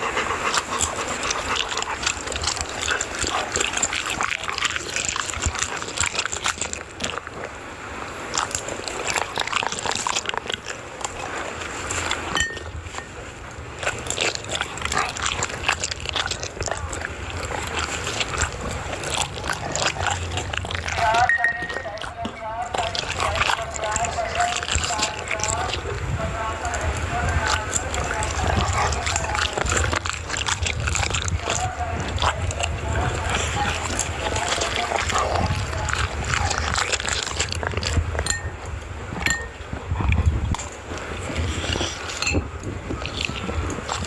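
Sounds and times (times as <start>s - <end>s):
dogs chewing wetly: 0.0s - 44.0s.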